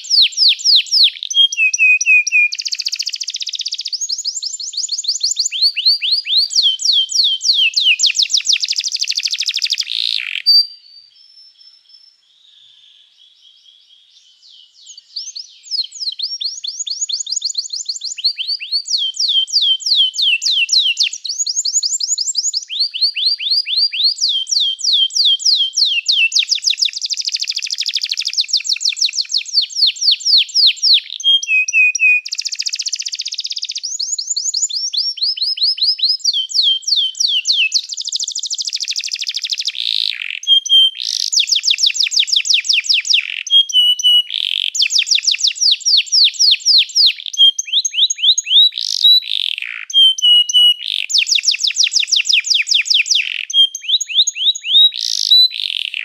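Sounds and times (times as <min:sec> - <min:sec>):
canary singing trills: 0:00.0 - 0:12.0, 0:14.3 - 0:56.0.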